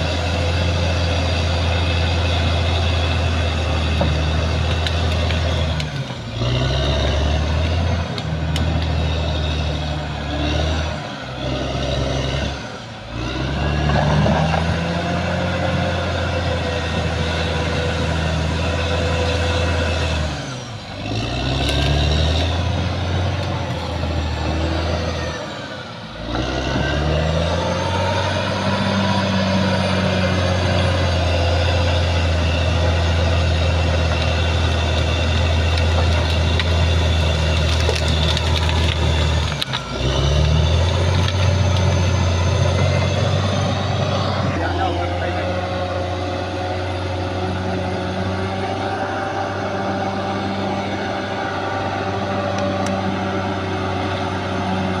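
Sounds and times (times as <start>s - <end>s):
bulldozer diesel engine running hard: 0.0s - 55.0s.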